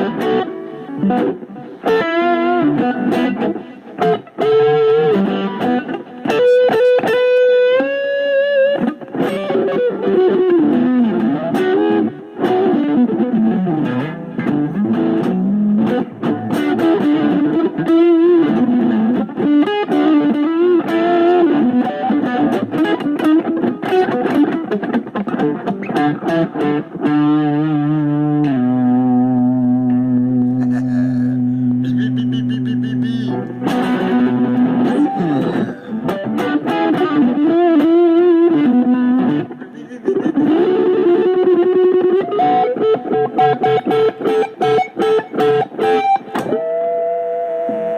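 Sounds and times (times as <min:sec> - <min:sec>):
distorted electric guitar: 0:00.0 - 0:47.9.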